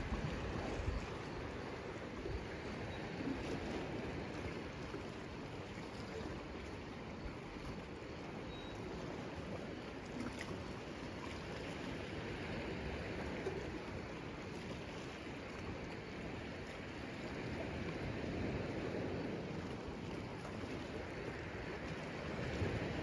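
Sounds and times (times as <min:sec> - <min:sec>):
water lapping against a dock: 0:00.0 - 0:23.0.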